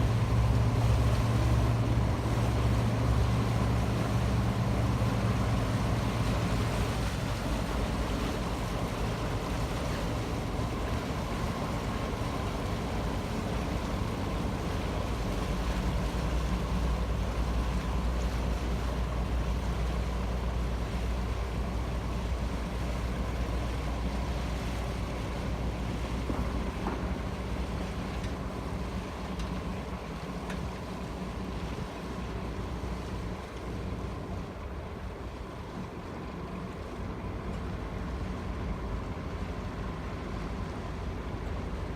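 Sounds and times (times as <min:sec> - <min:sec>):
ferry engine humming: 0:00.0 - 0:41.9
water wash: 0:00.0 - 0:41.9.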